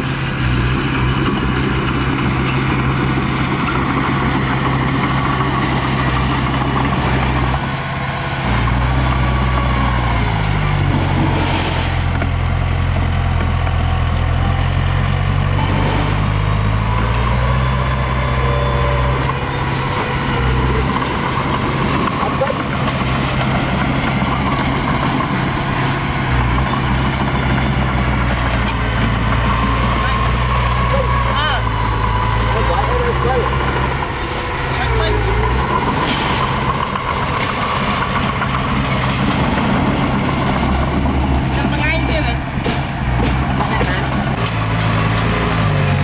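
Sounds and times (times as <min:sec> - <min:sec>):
heavy diesel engine under load: 0:00.0 - 0:46.0.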